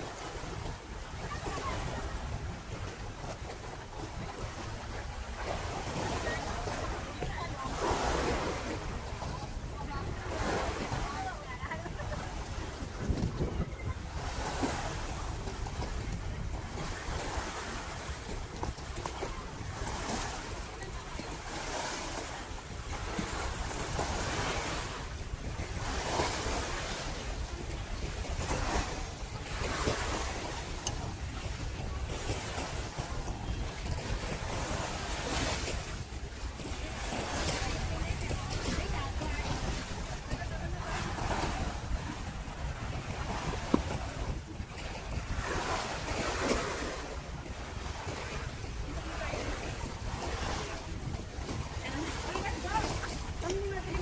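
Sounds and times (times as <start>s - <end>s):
sea waves: 0.0s - 54.0s
wind rumbling on microphone: 0.0s - 54.0s.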